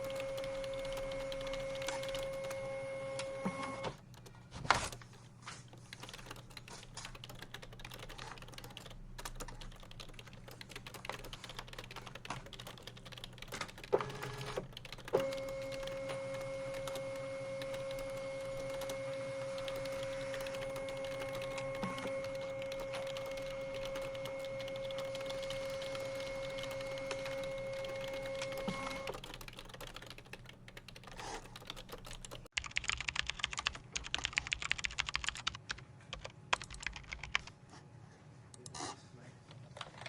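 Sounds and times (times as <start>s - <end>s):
mechanical hum: 0.0s - 32.4s
keyboard typing: 0.0s - 37.6s.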